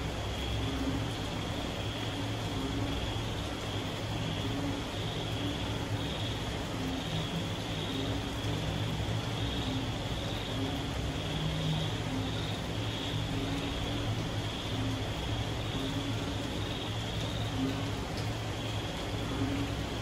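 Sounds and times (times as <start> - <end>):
chorus of night creatures: 0.0 - 20.0
rain falling: 0.0 - 20.0.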